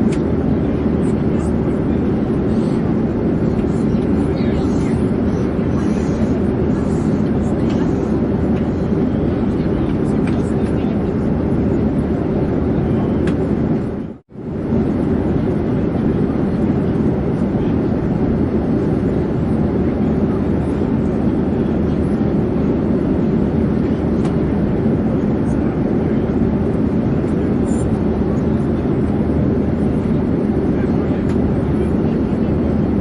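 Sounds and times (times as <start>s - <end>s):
airplane engines and airflow: 0.0s - 33.0s.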